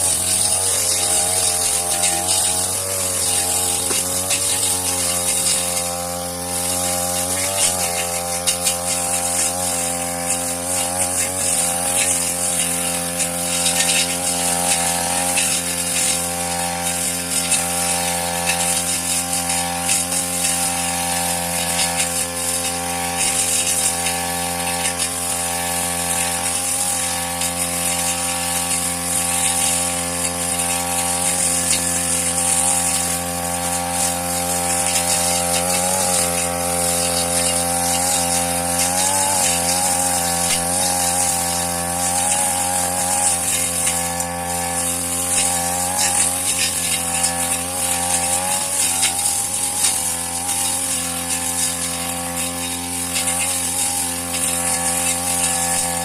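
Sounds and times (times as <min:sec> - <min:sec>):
brush cutter cutting grass: 0:00.0 - 0:56.0.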